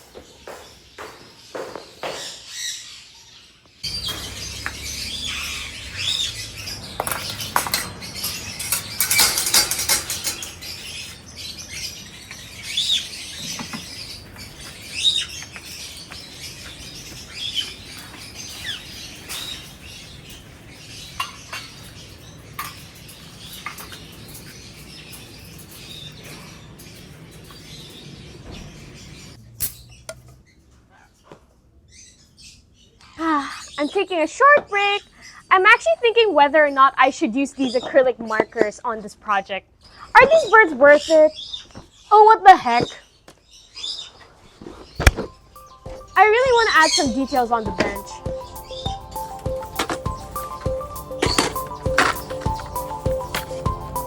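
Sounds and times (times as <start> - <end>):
parrots chirping and calling: 0.1 - 36.0, 39.7 - 54.0.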